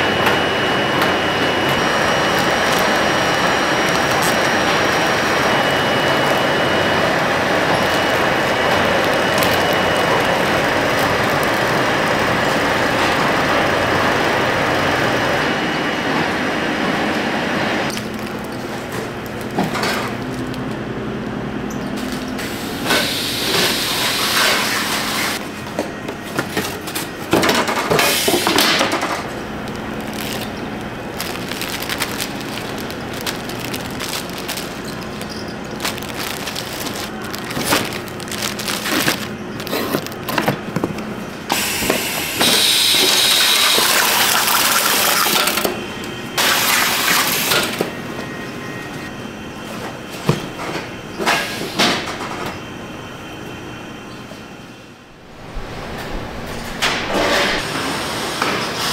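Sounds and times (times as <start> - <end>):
carton-sealing machine noise: 0.0 - 58.9
conveyor belts and rollers clattering: 0.0 - 58.9.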